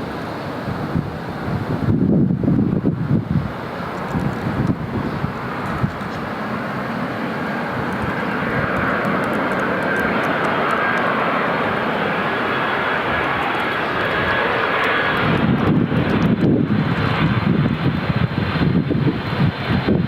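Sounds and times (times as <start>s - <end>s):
jet engines rushing and whining: 0.0s - 20.0s.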